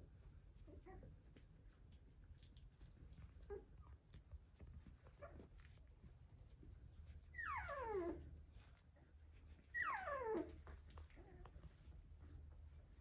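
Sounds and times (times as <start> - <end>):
puppies scuffling on a blanket: 0.0 - 13.0
puppy whining: 0.1 - 13.0.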